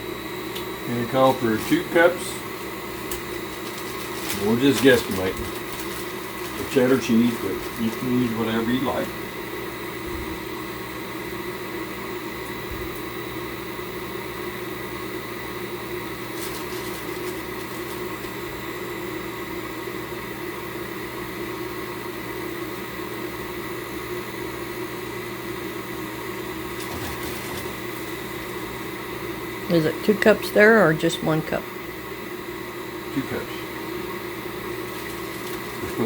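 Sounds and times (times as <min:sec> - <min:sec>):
kitchen fan humming: 0:00.0 - 0:36.0.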